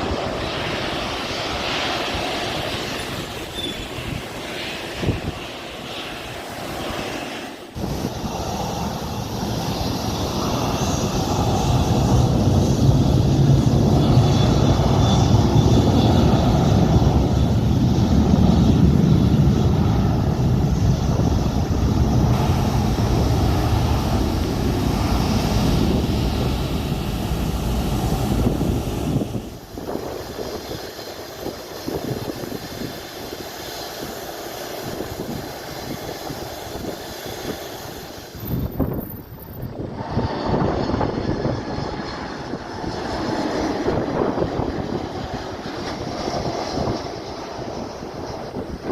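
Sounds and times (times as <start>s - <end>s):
airliner engines rumbling: 0.0s - 48.9s.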